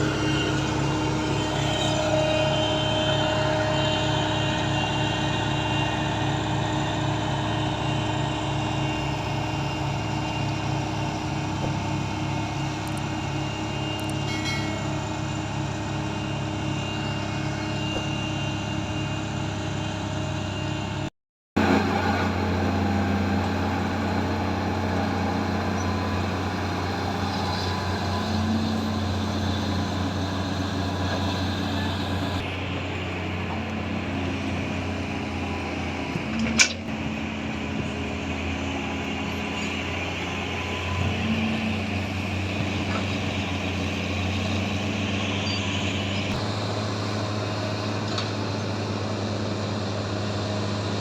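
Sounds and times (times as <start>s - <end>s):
heavy machinery diesel engine: 0.0s - 51.0s.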